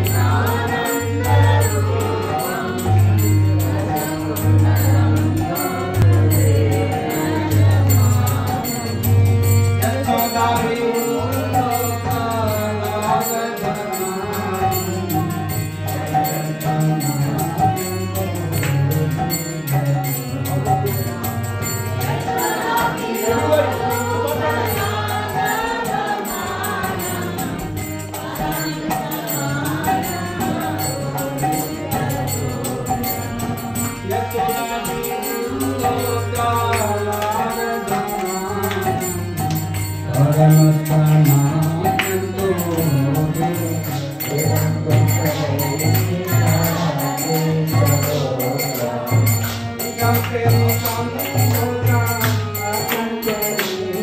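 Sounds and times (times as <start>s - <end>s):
group singing: 0.0s - 54.0s
jingling hand cymbals: 0.0s - 54.0s.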